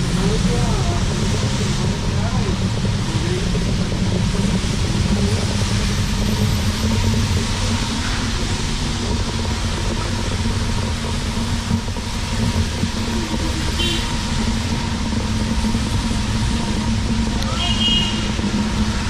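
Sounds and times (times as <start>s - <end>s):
car engines running at low speed: 0.0s - 19.0s
tyres hissing on wet road: 0.0s - 19.0s.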